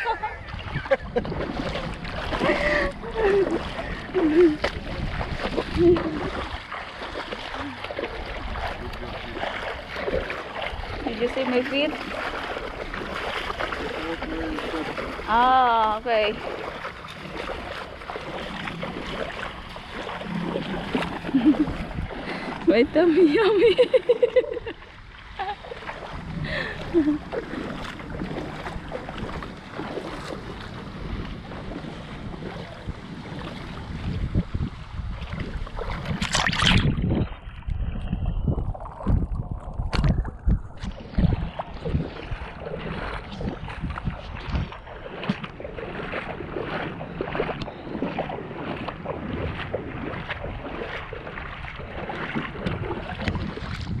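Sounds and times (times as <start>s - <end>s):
shallow seawater sloshing: 0.0s - 54.0s
water splashing around wading feet: 0.0s - 54.0s
wind buffeting microphone: 0.0s - 54.0s.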